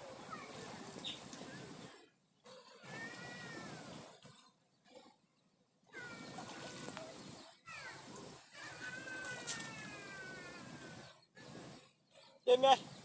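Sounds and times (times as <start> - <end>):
drawn-out animal calls: 0.0 - 4.5, 6.0 - 12.9.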